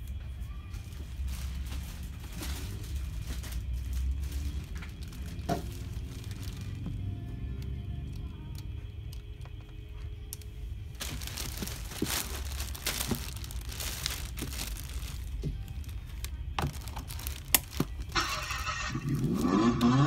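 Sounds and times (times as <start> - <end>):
plastic wrapping crinkling: 0.7 - 8.6, 10.2 - 20.0.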